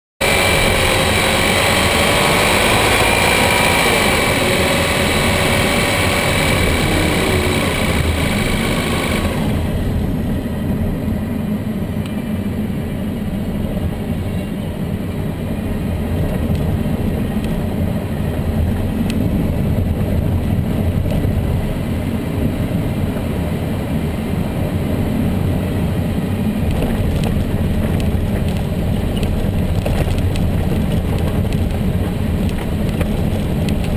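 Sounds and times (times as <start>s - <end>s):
high steady whine: 0.2s - 29.5s
car engine low rumble: 0.2s - 33.9s.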